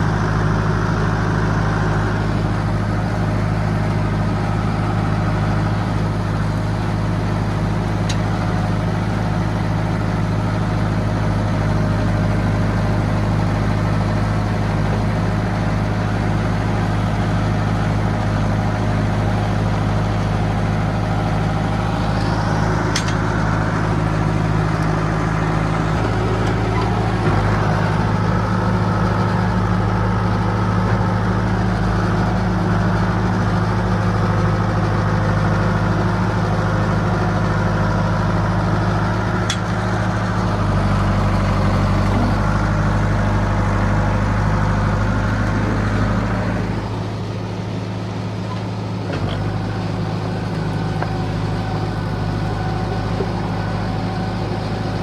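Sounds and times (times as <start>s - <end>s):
bulldozer engine running: 0.0s - 55.0s.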